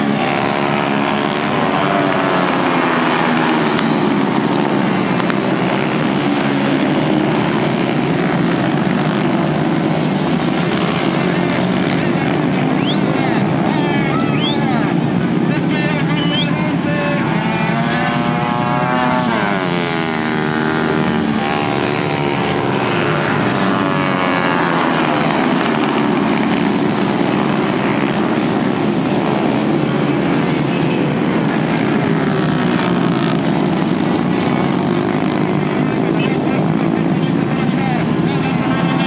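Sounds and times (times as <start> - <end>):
motorcycle passing close: 0.0 - 39.0
racing motorcycles at high revs: 0.0 - 39.0.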